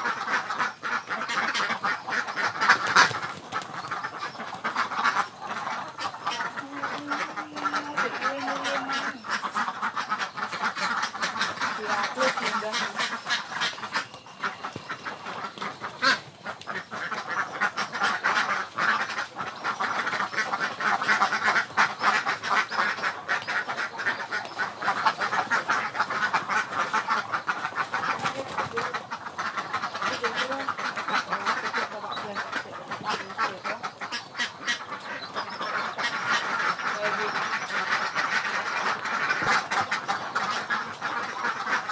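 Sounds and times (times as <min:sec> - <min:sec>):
ducks quacking: 0:00.0 - 0:41.9.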